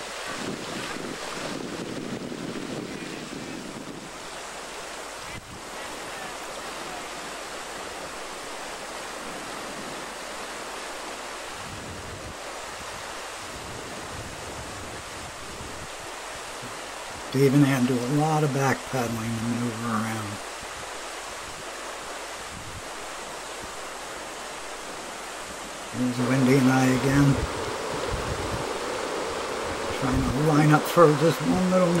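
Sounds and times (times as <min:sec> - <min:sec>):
wind buffeting microphone: 0:00.0 - 0:05.8, 0:09.2 - 0:17.4, 0:19.3 - 0:32.0
whitewater rapids rushing: 0:00.0 - 0:32.0.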